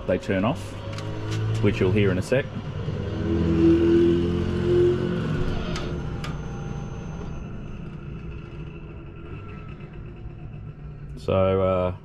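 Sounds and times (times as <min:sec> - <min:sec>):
electric gate actuators humming: 0:00.0 - 0:12.0.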